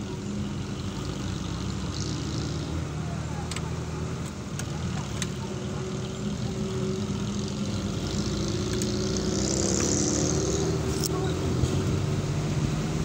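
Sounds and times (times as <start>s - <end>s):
jeep engine driving: 0.0s - 13.0s.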